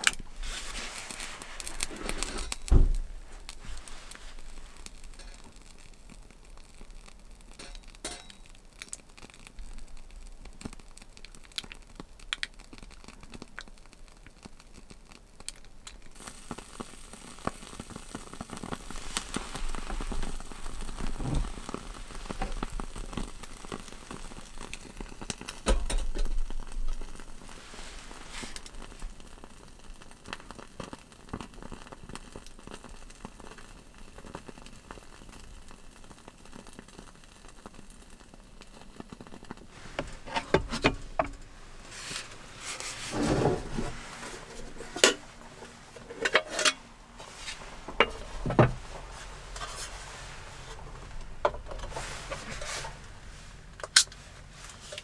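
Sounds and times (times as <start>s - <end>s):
charcoal fire crackling and popping: 0.0s - 55.0s.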